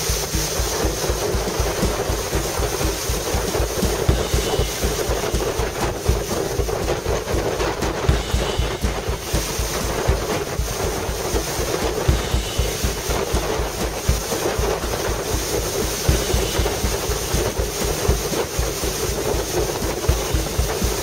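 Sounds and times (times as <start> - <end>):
motorboat engine drone: 0.0 - 21.0
rushing water: 0.0 - 21.0.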